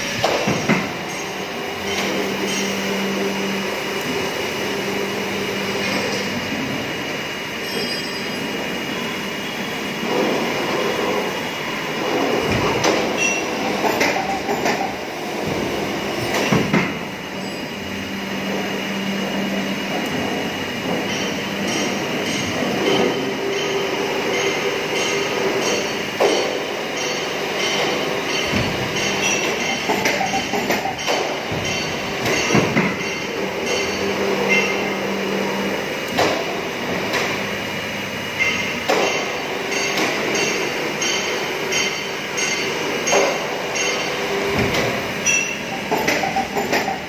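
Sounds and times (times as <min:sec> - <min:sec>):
moulding machine hum: 0:00.0 - 0:47.0.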